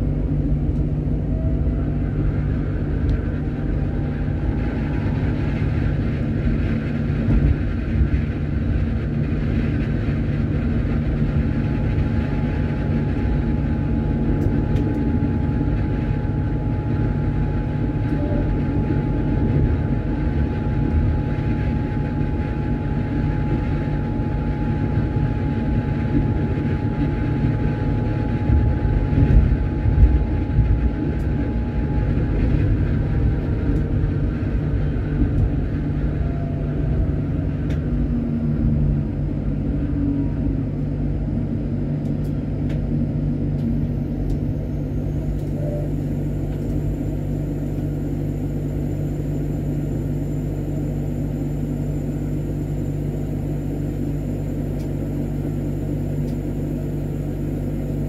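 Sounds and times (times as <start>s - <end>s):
tram wheels rumbling on rails: 0.0s - 52.4s
high even whine: 0.0s - 58.0s.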